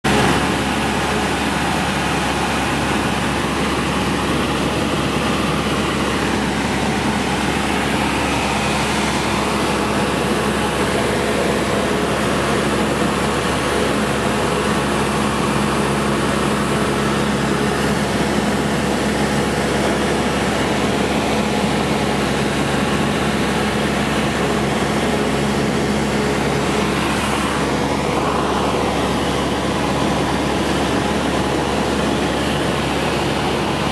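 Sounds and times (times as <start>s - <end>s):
propeller plane engine in flight: 0.0s - 33.9s.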